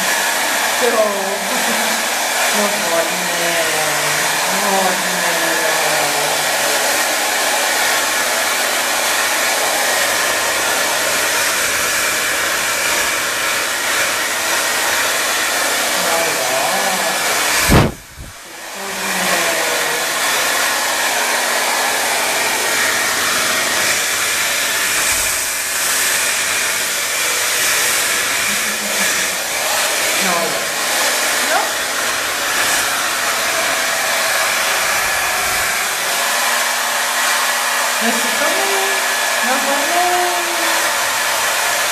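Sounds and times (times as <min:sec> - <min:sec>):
hair dryer blowing: 0:00.0 - 0:41.9.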